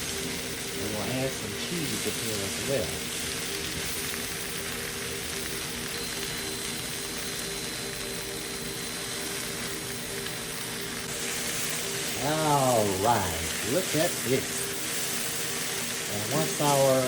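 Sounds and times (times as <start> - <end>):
food sizzling in a frying pan: 0.0 - 17.0
steady low hum: 0.0 - 17.0.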